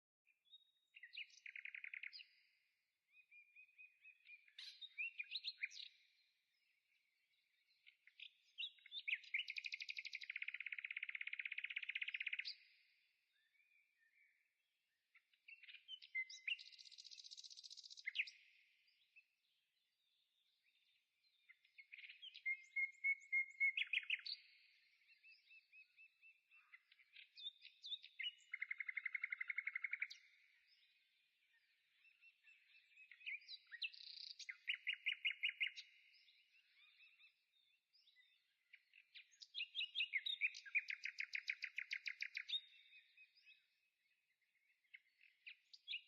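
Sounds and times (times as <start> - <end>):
songbird trills and chirps: 0.0 - 46.0.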